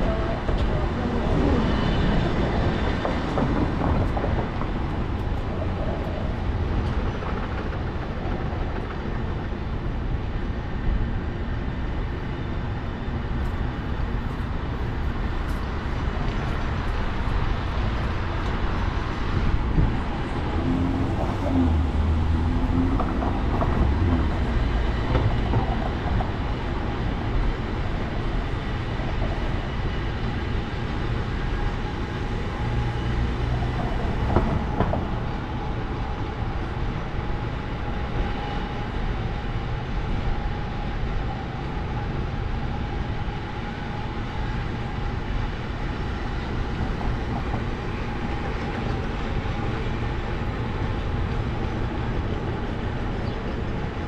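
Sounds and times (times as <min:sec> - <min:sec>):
rail vehicle rumbling and clattering: 0:00.0 - 0:54.0.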